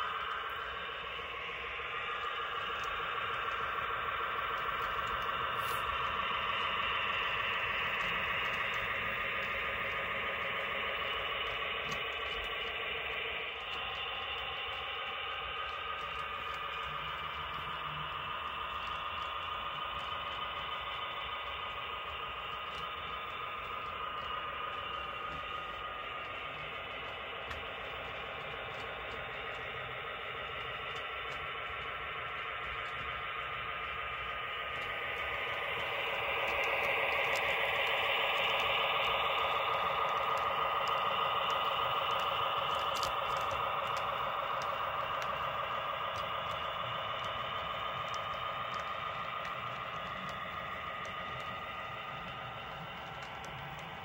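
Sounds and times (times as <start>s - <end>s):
faint clicks: 0.0s - 54.0s
model locomotive engine drone: 0.0s - 54.0s.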